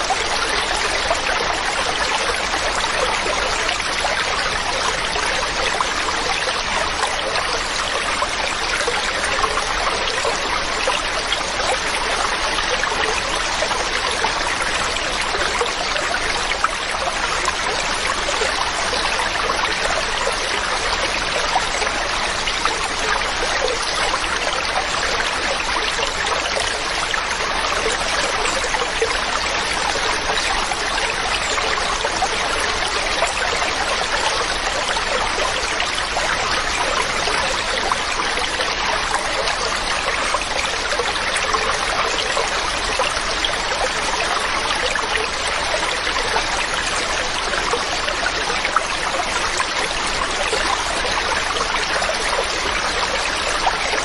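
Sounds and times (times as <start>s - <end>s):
mountain stream flowing: 0.0s - 54.0s.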